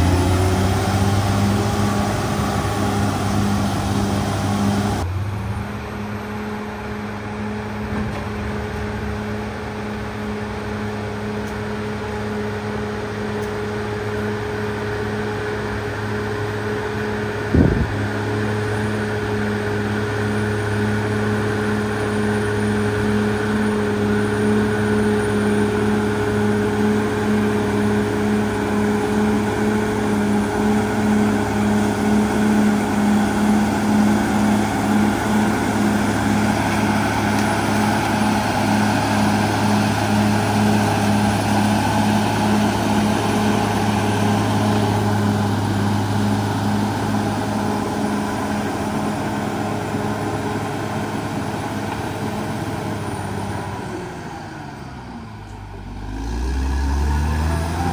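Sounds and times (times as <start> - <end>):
dozer blade pushing soil and rock: 0.0 - 5.1, 6.0 - 57.9
bulldozer diesel engine under load: 0.0 - 57.9.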